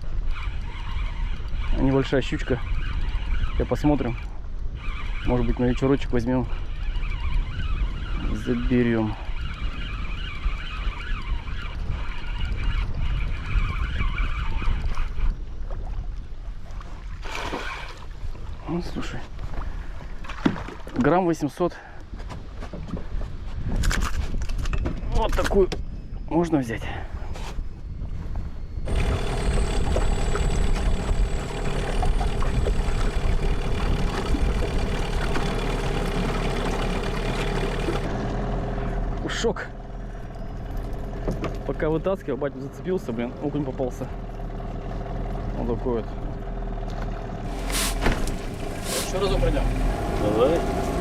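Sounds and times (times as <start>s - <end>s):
boat motor rumbling with whine: 0.0s - 23.7s, 24.4s - 51.0s.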